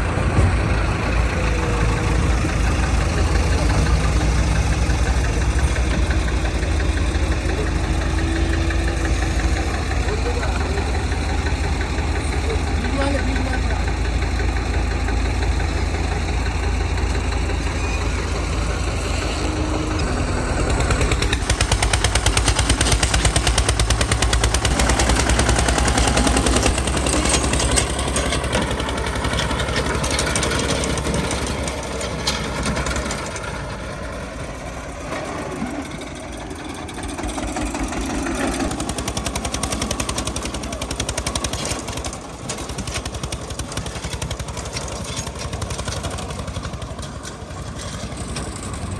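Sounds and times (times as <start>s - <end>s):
tractor diesel engine pulsing: 0.0s - 48.9s.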